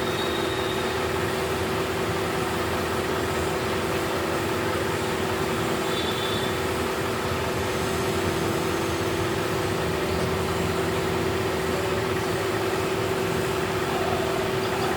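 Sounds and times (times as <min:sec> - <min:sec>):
mechanical hum: 0:00.0 - 0:14.9.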